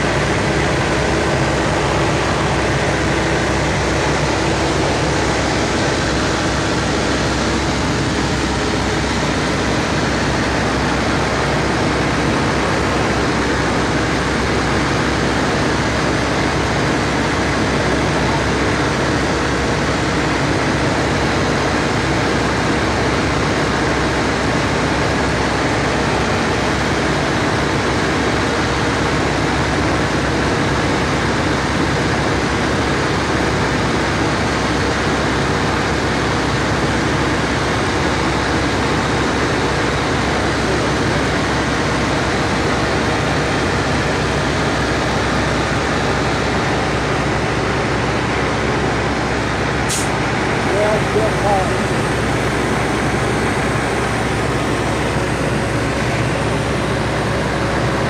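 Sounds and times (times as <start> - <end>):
small plane engine droning: 0.0 - 58.0.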